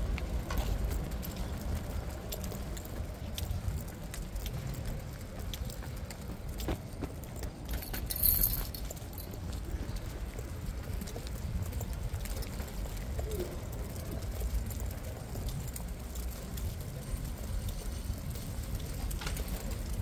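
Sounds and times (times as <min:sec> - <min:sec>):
faint street ambience: 0:00.0 - 0:20.0
pram wheels rolling over pavement: 0:00.0 - 0:20.0.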